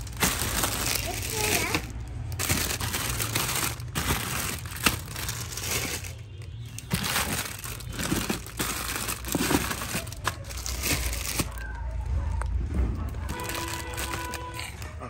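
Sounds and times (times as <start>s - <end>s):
plastic packaging crinkling: 0.0s - 14.9s.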